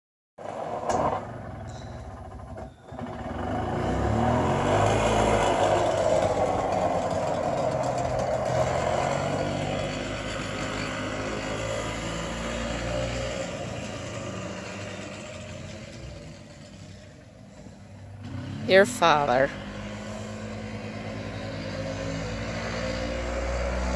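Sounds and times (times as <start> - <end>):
golf cart engine pulling away: 0.4 - 23.9.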